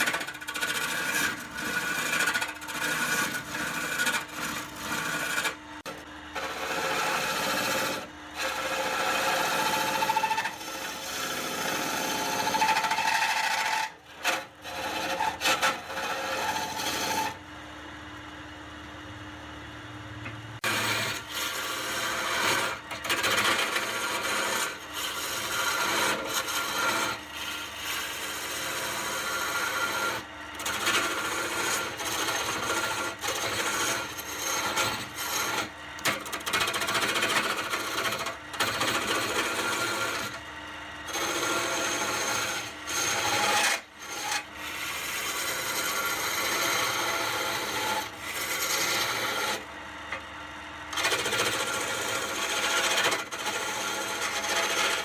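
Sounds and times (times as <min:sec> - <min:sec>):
wood scraping on spinning lathe: 0:00.0 - 0:18.8, 0:20.6 - 0:55.0.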